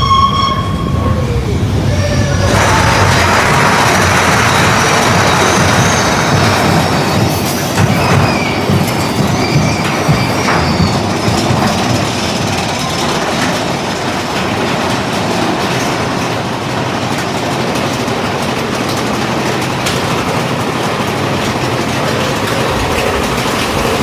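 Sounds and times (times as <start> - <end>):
roller coaster cars rattling: 0.0 - 24.0.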